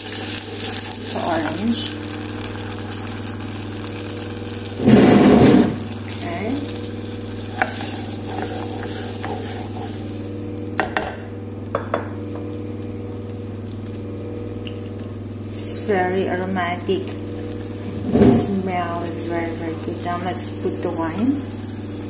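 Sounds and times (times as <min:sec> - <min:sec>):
garlic sizzling in hot fat: 0:00.0 - 0:22.0.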